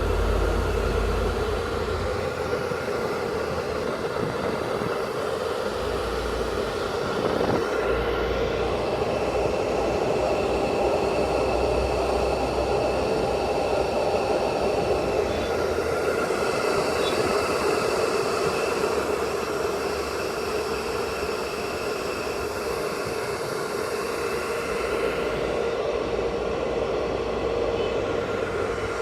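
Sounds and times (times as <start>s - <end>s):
cooling fan whirring: 0.0s - 29.0s.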